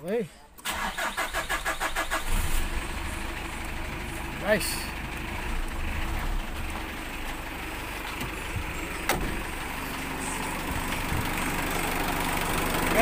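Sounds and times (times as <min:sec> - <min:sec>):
diesel engine idling: 0:00.4 - 0:13.0.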